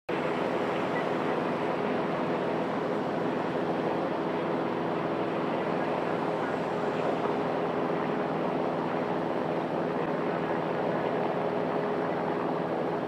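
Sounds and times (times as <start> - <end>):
helicopter running: 0.1 - 13.0.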